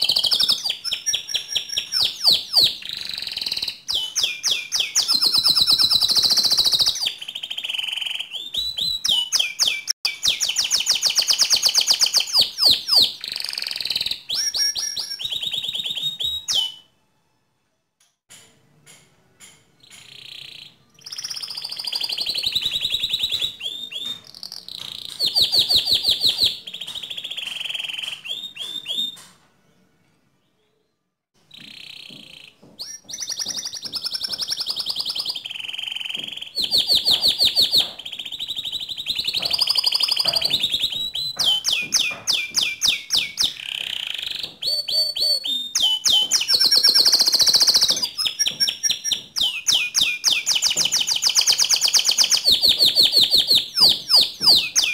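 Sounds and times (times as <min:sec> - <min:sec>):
canary singing: 0:00.0 - 0:16.9, 0:19.8 - 0:29.4, 0:31.4 - 0:54.9.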